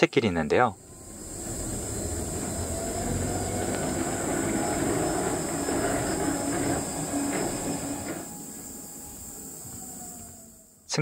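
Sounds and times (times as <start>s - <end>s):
monorail rolling on track: 0.4s - 10.8s
faint hum: 0.5s - 11.0s.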